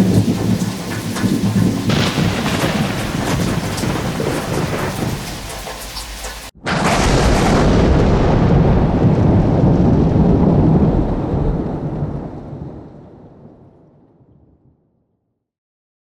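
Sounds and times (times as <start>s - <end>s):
rain falling: 0.0s - 13.2s
thunderclap with low rumble: 0.0s - 14.8s.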